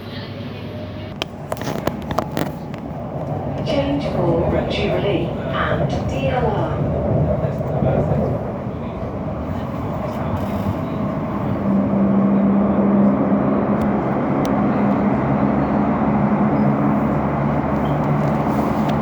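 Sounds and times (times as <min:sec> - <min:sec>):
train motor hum: 0:00.0 - 0:19.0
train wheels rumbling: 0:00.0 - 0:19.0.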